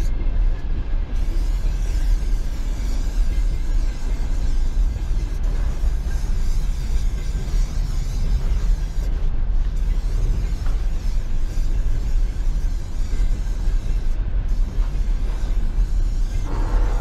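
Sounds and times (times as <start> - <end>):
spray-paint can hissing: 1.2 - 17.0.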